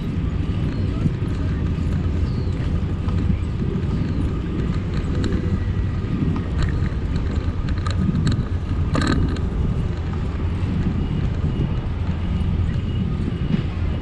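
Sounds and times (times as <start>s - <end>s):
sharp clatter: 0.0s - 12.9s
bicycle tyre noise on asphalt: 0.0s - 14.0s
bike clicks and rattles: 0.0s - 14.0s
wind buffeting microphone: 0.0s - 14.0s.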